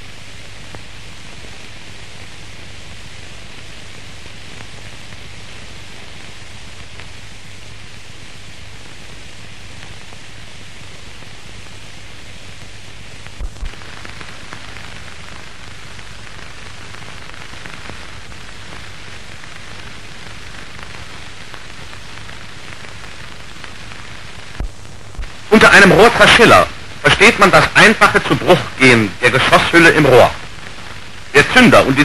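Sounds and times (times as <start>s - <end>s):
film soundtrack hiss and crackle: 0.0s - 32.0s.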